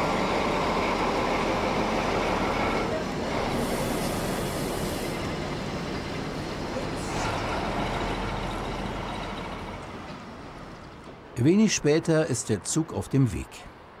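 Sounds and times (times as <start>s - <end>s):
diesel locomotive engine: 0.0s - 12.6s
train rolling noise: 0.0s - 12.8s.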